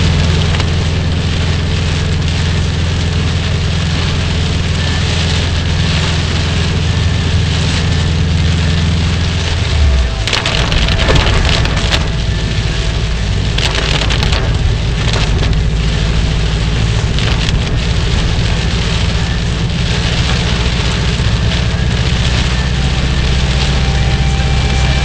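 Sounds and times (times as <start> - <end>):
car engine and tyres rumbling: 0.0 - 25.0
heavy rain pelting a car: 0.0 - 25.0.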